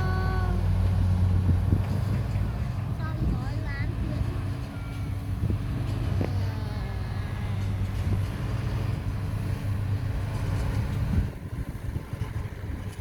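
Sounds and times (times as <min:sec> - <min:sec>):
heavy machine engine humming: 0:00.0 - 0:13.0.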